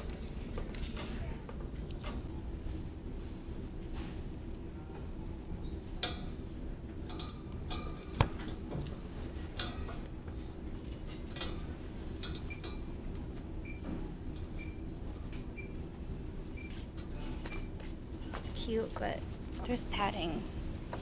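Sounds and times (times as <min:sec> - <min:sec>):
store background hum: 0:00.0 - 0:21.0.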